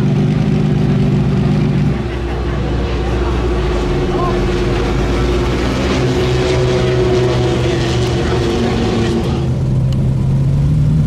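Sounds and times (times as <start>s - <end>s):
car engine idling deep drone: 0.0s - 11.0s.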